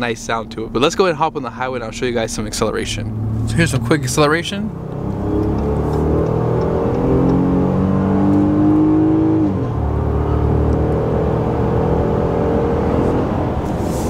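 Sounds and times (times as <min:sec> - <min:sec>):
car engine accelerating hard: 0:02.0 - 0:14.0.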